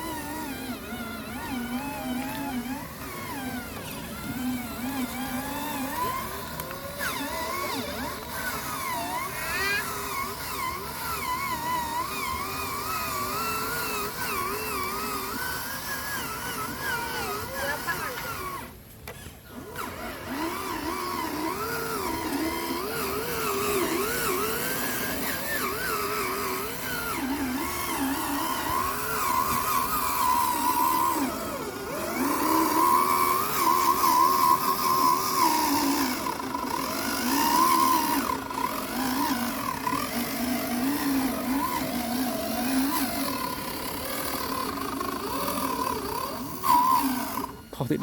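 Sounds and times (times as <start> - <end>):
toy truck motor whining: 0.0 - 48.0.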